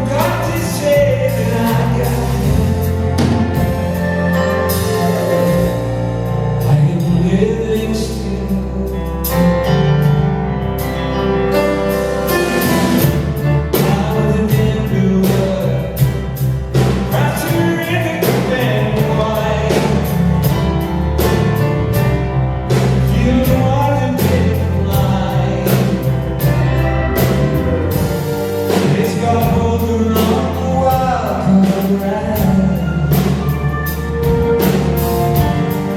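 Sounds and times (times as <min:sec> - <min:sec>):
live band playing: 0:00.0 - 0:35.9.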